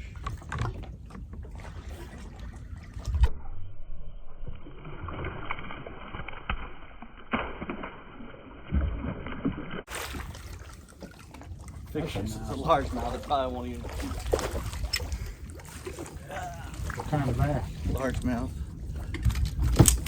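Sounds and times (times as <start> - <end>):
water splashing around a boat: 0.0 - 3.4, 4.5 - 20.0.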